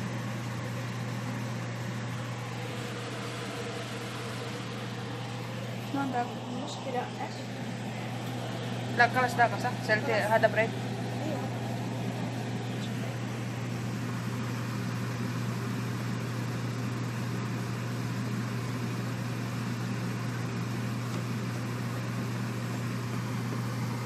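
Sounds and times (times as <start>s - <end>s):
appliance motor humming: 0.0s - 24.0s.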